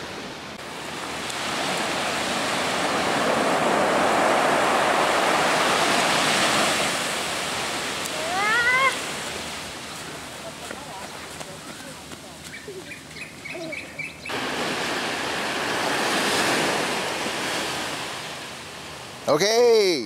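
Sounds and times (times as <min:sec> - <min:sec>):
sea waves breaking on beach: 0:00.0 - 0:12.5, 0:14.3 - 0:19.9.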